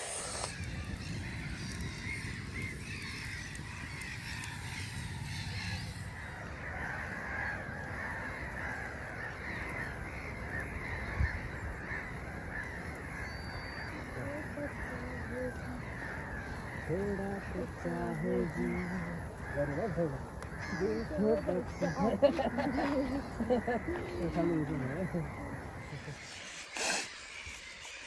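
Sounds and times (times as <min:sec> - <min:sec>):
wind rumble: 0:00.0 - 0:26.2
flock of birds calling: 0:00.0 - 0:28.0.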